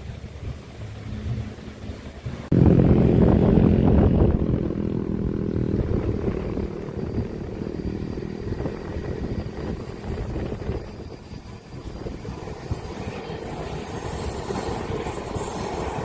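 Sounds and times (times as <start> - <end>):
diesel locomotive engine drone: 0.0 - 16.0
train wheels rumbling on rails: 3.2 - 16.0.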